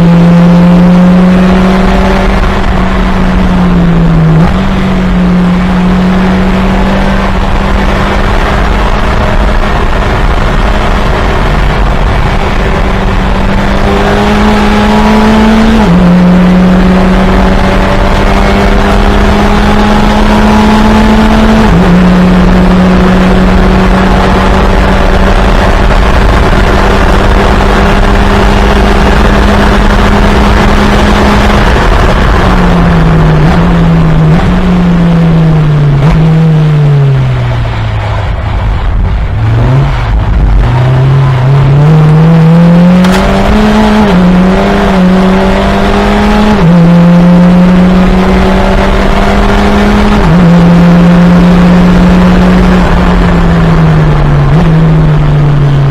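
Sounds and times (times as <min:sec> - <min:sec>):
race car engine at high revs: 0:00.0 - 0:55.9.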